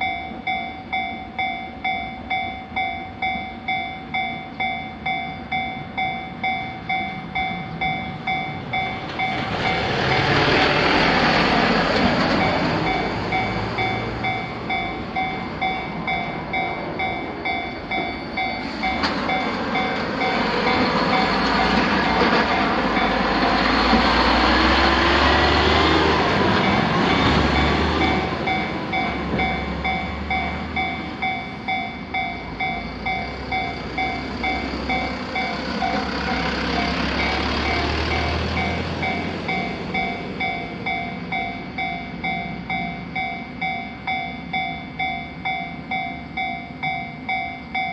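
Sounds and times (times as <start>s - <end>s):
railroad crossing bell ringing: 0.0s - 47.9s
train passing: 0.0s - 47.9s.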